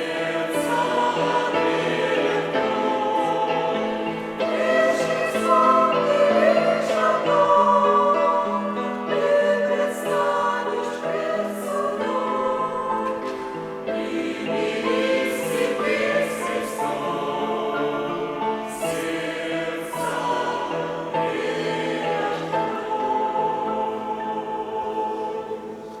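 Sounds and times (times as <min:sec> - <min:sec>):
church choir singing a hymn: 0:00.0 - 0:26.0.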